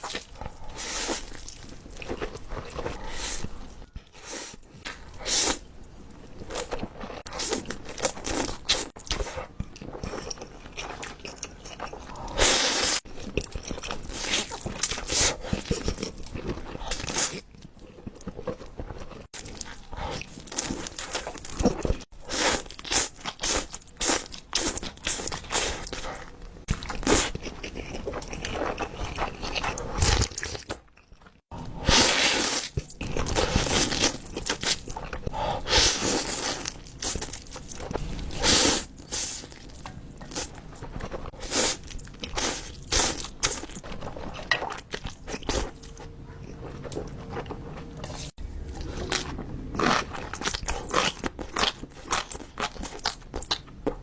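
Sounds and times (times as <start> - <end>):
crunchy food being chewed: 0.0 - 54.0.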